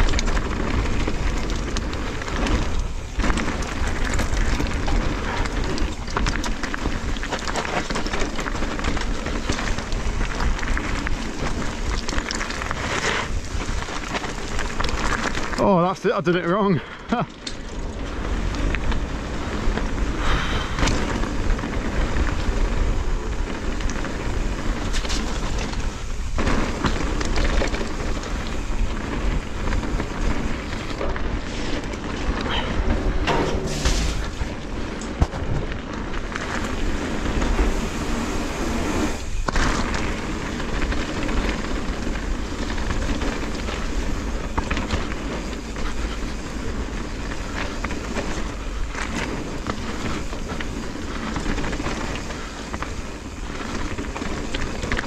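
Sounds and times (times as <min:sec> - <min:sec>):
bike tyres rattling over stones: 0:00.0 - 0:55.0.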